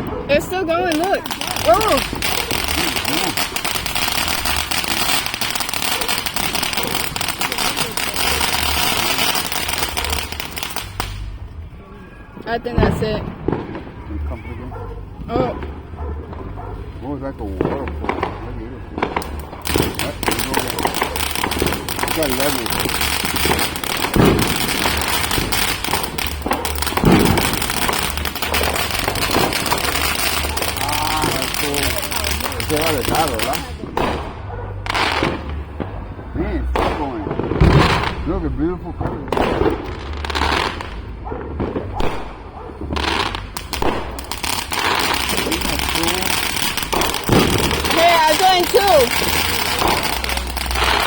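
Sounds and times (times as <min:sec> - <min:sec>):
firework crackling and hissing: 0:00.0 - 0:51.0.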